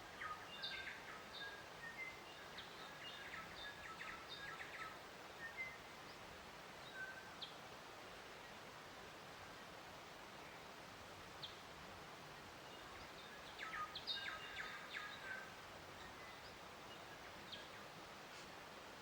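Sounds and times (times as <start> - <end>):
faint outdoor hiss: 0.0 - 19.0
songbirds chirping: 0.0 - 19.0.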